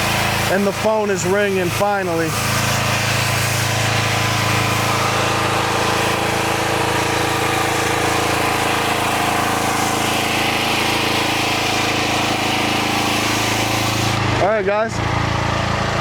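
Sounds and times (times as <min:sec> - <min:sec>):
pressure washer hiss: 0:00.0 - 0:14.4
pressure washer engine running: 0:00.0 - 0:16.0.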